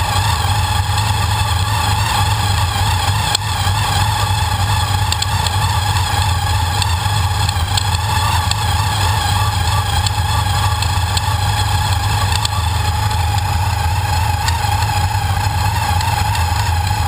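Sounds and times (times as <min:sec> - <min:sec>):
supercharged car engine whining: 0:00.0 - 0:17.0.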